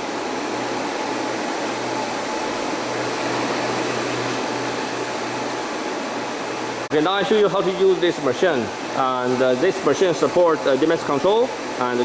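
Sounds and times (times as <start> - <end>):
fan whooshing: 0.0 - 12.0
low electrical hum: 0.0 - 12.0.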